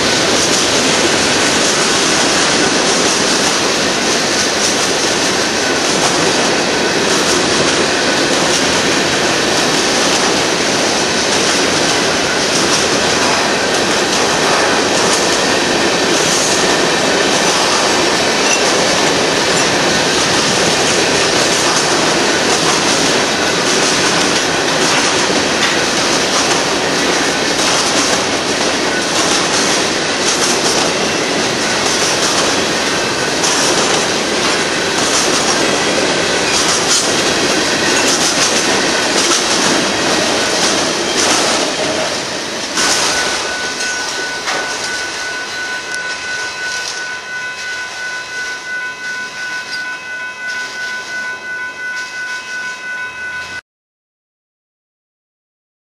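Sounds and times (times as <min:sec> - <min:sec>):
wheels clicking over rail joints: 0:00.0 - 0:45.2
freight train wheels rumbling on rails: 0:00.0 - 0:53.6.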